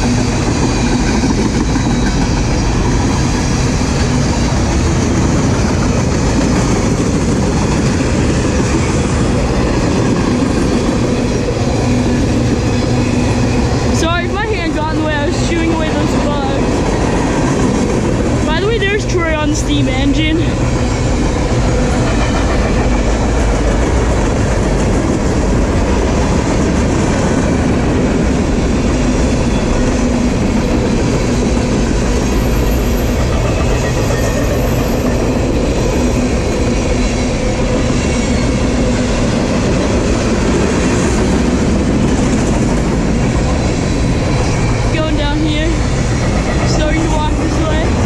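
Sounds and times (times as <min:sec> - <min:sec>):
steel wheels on rails: 0:00.0 - 0:48.0.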